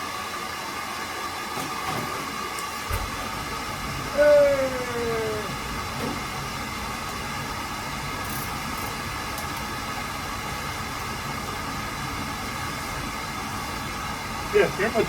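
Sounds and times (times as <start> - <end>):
oil burner blower and flame: 0.0 - 15.0.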